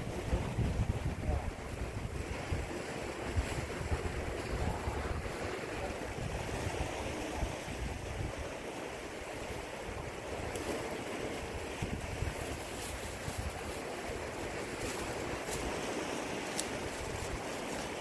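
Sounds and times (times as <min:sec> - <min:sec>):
sea surf on rocky shore: 0:00.0 - 0:18.0
wind buffeting microphone: 0:00.0 - 0:18.0.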